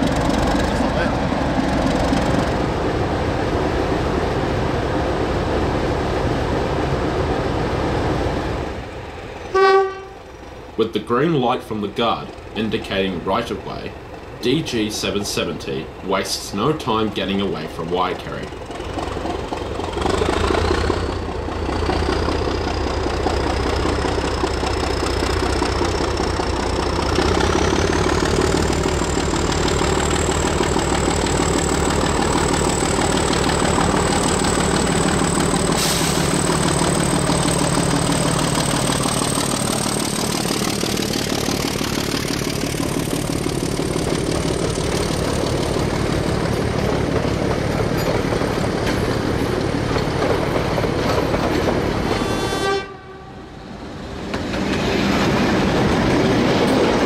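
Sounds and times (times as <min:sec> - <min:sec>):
diesel engine deep rumble: 0:00.0 - 0:06.1, 0:08.6 - 0:52.1.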